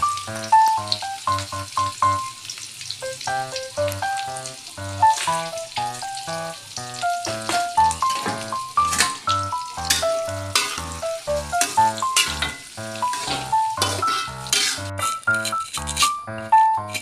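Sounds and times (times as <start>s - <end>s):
background music with bright melody: 0.0s - 2.3s, 3.0s - 17.0s
food sizzling in a pan: 0.0s - 17.0s.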